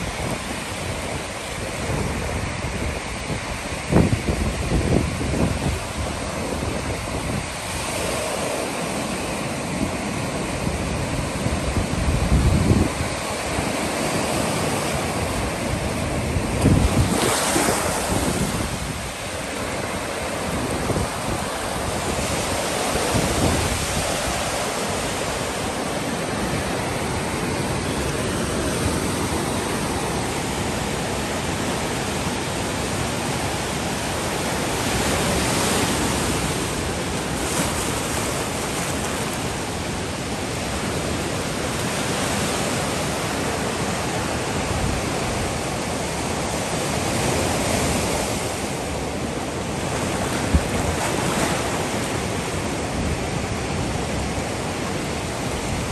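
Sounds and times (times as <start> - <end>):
waves breaking on a beach: 0.0 - 55.9
wind buffeting the microphone: 0.0 - 55.9.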